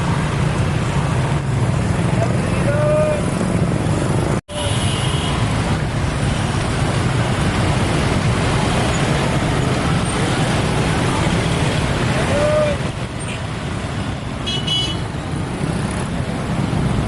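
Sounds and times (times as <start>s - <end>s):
heavy vehicles rumbling: 0.0s - 17.0s.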